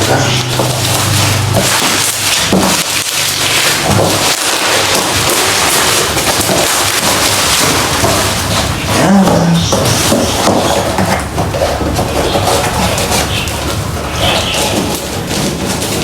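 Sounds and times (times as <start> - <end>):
plastic packaging crackling: 0.0 - 16.0.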